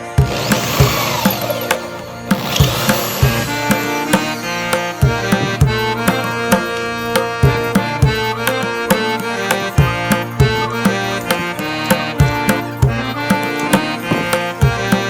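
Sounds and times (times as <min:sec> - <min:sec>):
melodic instrument: 0:00.0 - 0:15.0
percussion beat: 0:00.0 - 0:15.0.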